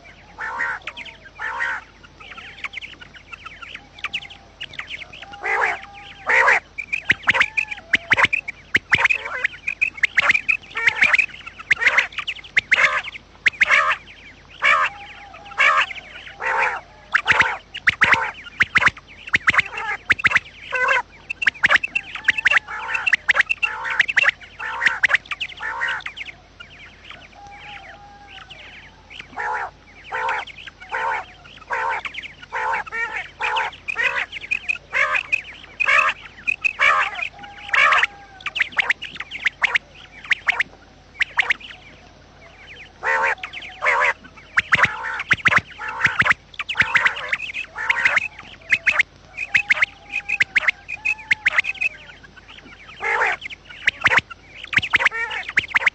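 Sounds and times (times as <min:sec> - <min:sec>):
quail calling: 0:00.0 - 0:55.9.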